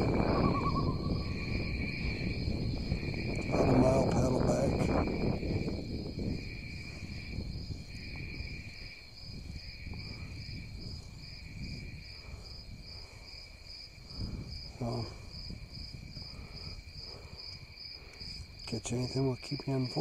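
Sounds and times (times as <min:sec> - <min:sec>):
insects chirping: 0:00.0 - 0:20.0
wind: 0:00.0 - 0:20.0.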